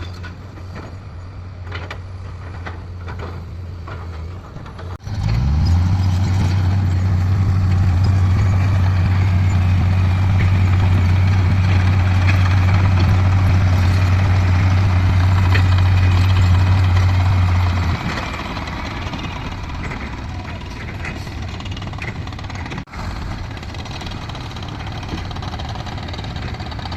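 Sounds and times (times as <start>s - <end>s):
diesel engine drone: 0.0s - 26.9s.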